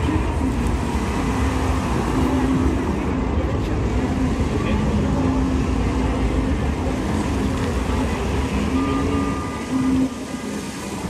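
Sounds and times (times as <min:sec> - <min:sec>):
low rumble of moving vehicle: 0:00.0 - 0:11.0.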